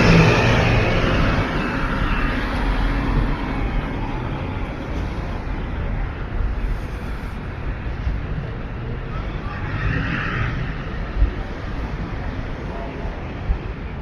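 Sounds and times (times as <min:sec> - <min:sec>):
steady traffic noise: 0:00.0 - 0:14.0.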